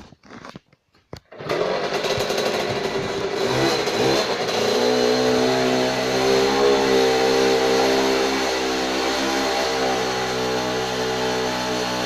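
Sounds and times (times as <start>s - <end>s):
dirt bike engine revving: 1.3s - 12.0s.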